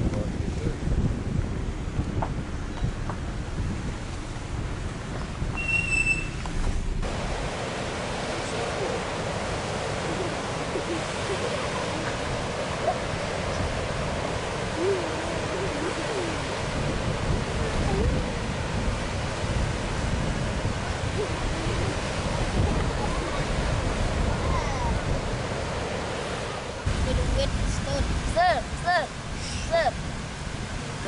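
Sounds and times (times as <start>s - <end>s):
wind blowing on microphone: 0.0s - 31.0s
ocean surf breaking: 3.2s - 31.0s.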